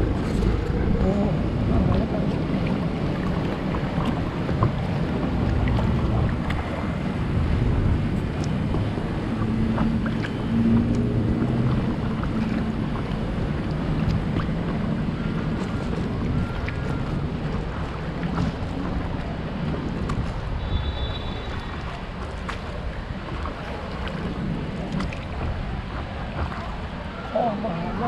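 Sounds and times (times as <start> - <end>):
paddleboard moving through water: 0.0 - 28.0
wind rumbling on microphone: 0.0 - 28.0.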